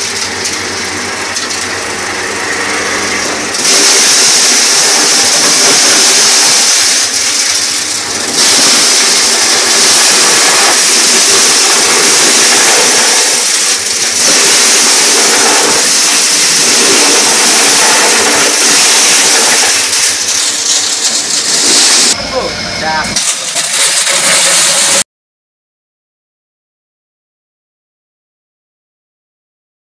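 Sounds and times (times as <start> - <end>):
corn sheller motor running: 0.0 - 25.0.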